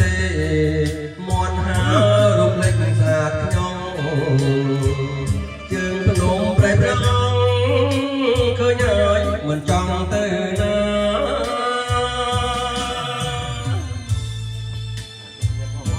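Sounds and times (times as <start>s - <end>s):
instrumental melody: 0.0s - 15.9s
steady bass beat: 0.0s - 15.9s.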